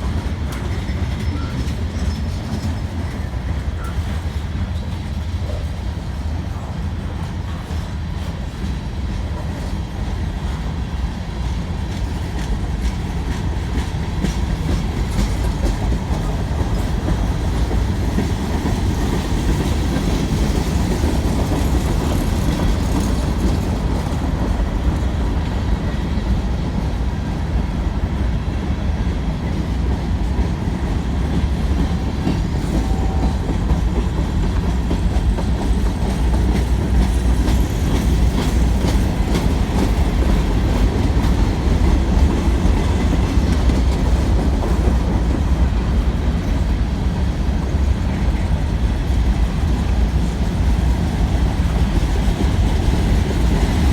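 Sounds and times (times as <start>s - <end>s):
freight train rumbling past: 0.0s - 53.9s
wheels clickety-clack: 0.0s - 53.9s.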